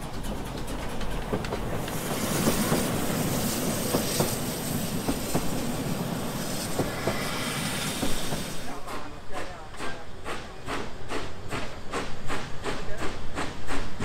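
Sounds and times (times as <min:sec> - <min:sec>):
steam train hiss: 0:00.0 - 0:14.0.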